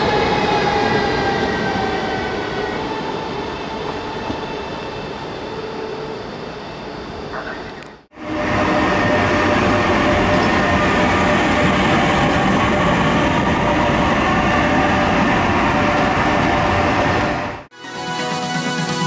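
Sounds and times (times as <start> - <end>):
locomotive whine: 0.0 - 17.7.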